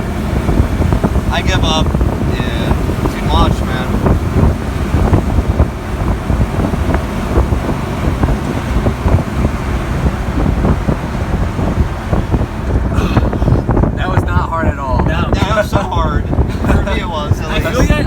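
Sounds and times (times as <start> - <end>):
moving vehicle rumble: 0.0 - 18.0
wind buffeting microphone: 0.0 - 18.0.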